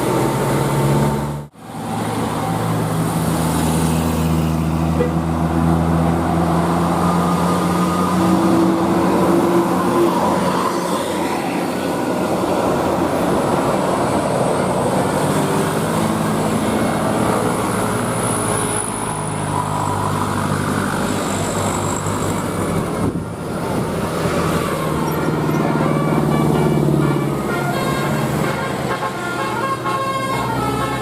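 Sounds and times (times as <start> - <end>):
bus engine passing: 0.0 - 31.0
road traffic noise: 0.0 - 31.0.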